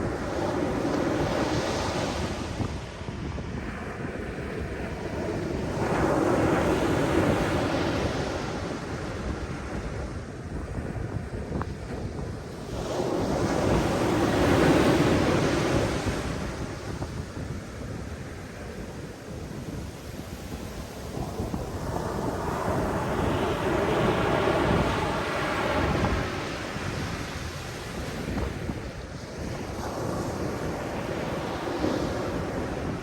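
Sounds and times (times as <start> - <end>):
ocean waves on shore: 0.0 - 33.0
wind buffeting microphone: 0.0 - 33.0.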